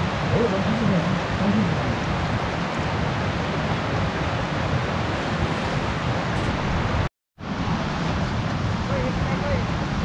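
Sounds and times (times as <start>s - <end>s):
rushing wind on microphone: 0.0s - 10.0s.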